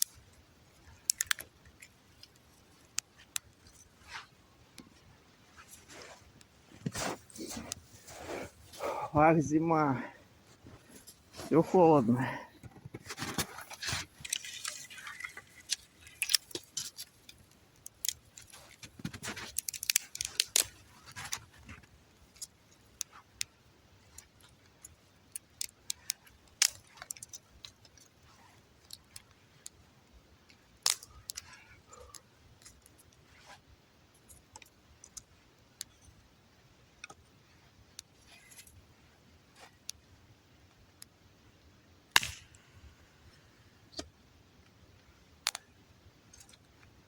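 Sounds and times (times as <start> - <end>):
campfire crackling: 0.0 - 47.0.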